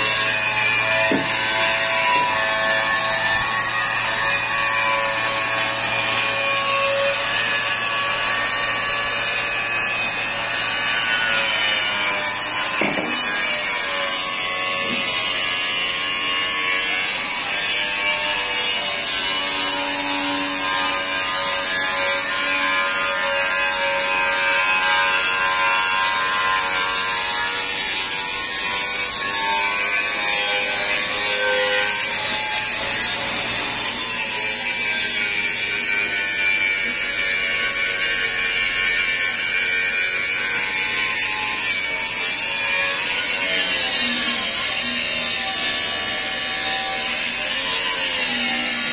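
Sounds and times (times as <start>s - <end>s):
angle grinder whining: 0.0s - 48.9s.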